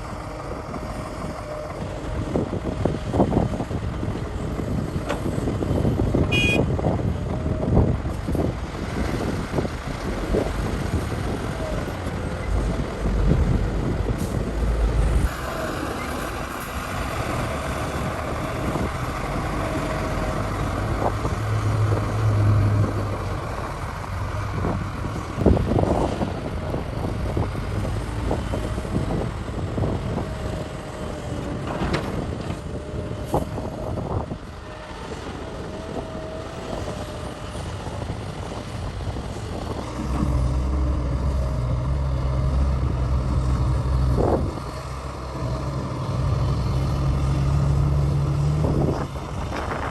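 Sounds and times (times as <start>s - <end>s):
heavy diesel engine rumble: 0.0s - 49.9s.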